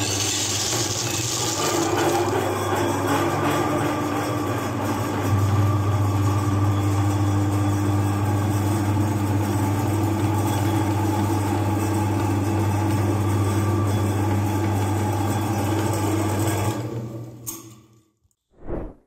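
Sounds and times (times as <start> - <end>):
electric meat grinder humming: 0.0 - 17.4.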